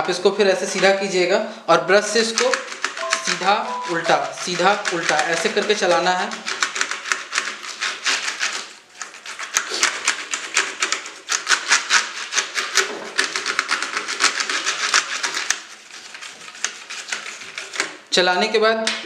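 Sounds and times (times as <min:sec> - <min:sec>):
brush scratching over keyboard keys: 0:02.0 - 0:18.0.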